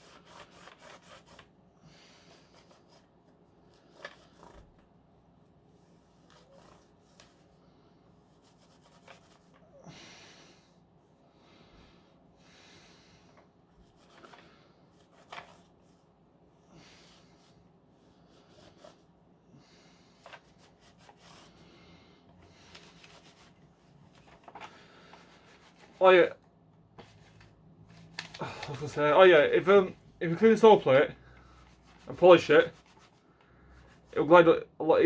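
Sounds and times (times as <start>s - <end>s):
faint rubbing and wiping: 0.0s - 9.8s, 10.4s - 26.4s, 27.0s - 35.0s.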